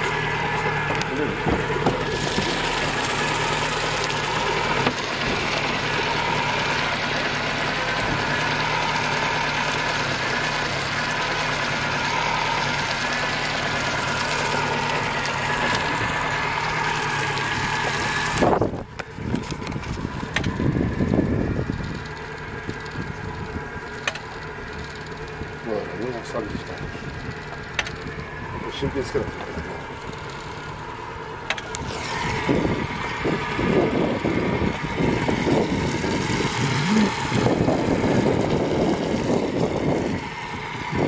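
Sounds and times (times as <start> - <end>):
cooling water splashing: 0.0 - 41.0
outboard motor idling: 0.0 - 41.0.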